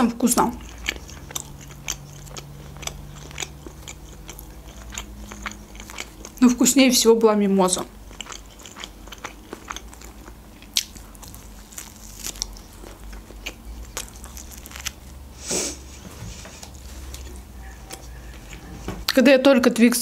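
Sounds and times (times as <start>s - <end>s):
crust crunching while chewing: 0.2s - 6.8s, 7.8s - 15.4s, 16.5s - 19.2s.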